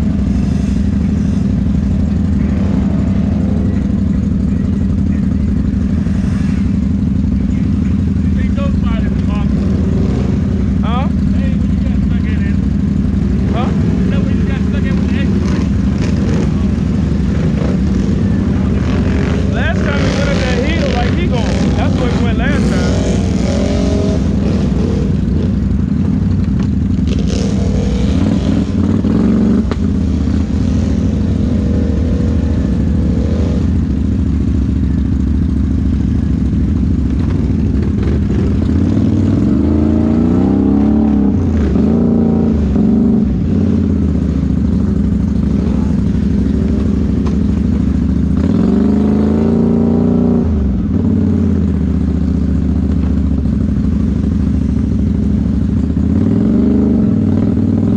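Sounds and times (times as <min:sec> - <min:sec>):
atv engines idling and revving: 0:00.0 - 0:57.9.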